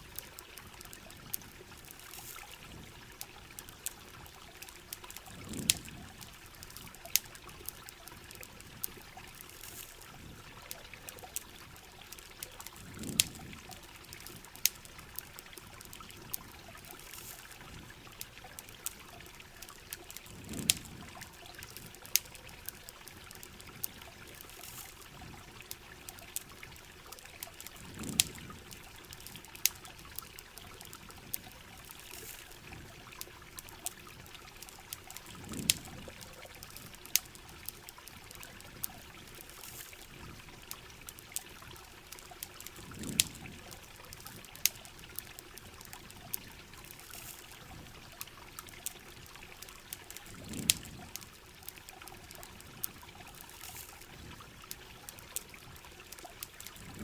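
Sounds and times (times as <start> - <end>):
campfire crackling: 0.0 - 57.0
running river water: 0.0 - 57.0.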